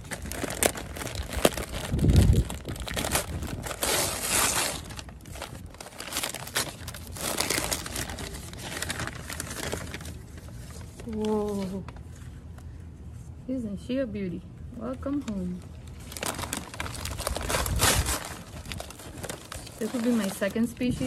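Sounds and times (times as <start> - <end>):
paper crinkling and tearing: 0.0 - 12.6, 15.8 - 21.0.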